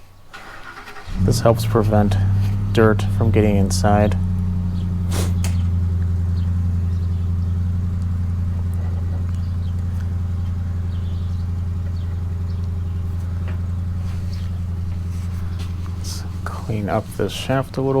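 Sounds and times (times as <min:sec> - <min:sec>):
low machine hum: 0:01.1 - 0:18.0.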